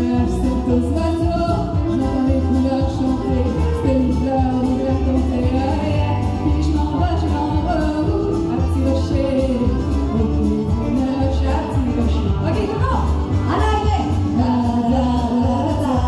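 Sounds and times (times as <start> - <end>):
backing track with bass beat: 0.0 - 16.0
women singing into microphones: 0.0 - 16.0.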